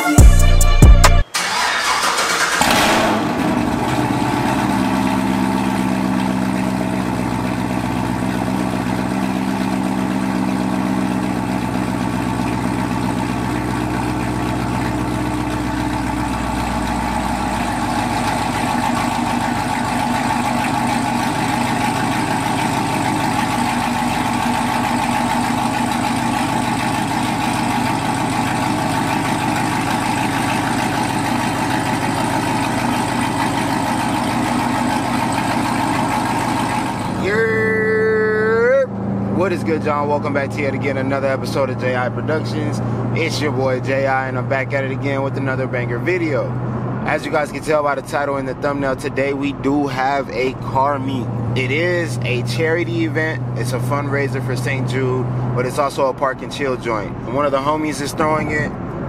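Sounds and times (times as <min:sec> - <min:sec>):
car engine starting and idling: 0:00.0 - 0:59.0.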